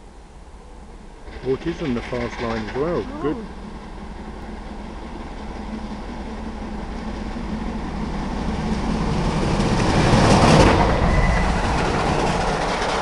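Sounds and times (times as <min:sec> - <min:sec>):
rail noise: 0:00.0 - 0:13.0
steam locomotive approaching: 0:00.0 - 0:13.0.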